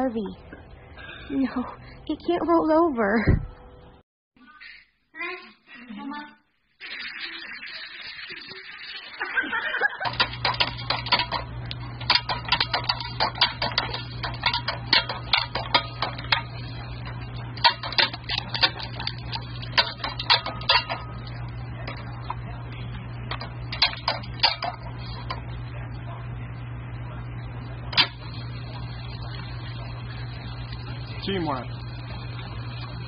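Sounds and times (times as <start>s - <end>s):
steady low hum: 0.0s - 4.0s, 9.8s - 33.0s.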